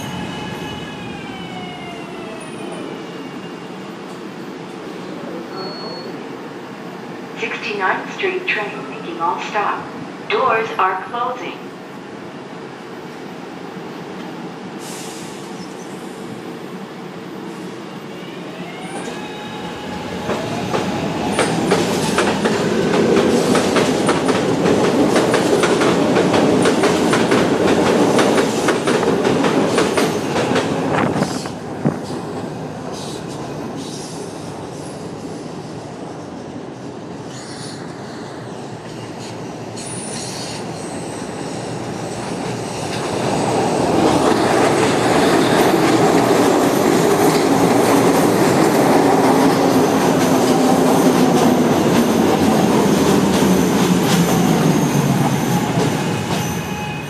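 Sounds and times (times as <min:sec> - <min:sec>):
second train passing close: 0:00.0 - 0:57.0.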